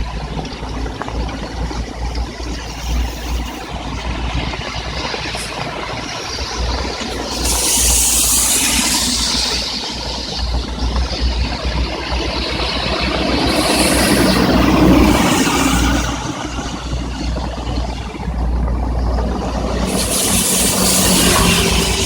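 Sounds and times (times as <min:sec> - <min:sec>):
heavy rain falling: 0:00.0 - 0:22.0
low road traffic rumble: 0:00.0 - 0:22.0
tyres hissing on wet road: 0:00.0 - 0:22.0.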